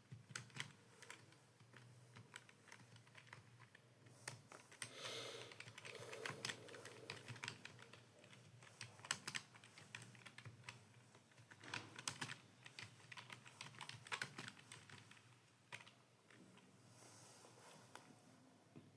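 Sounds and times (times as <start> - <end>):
keyboard typing: 0.1 - 15.9.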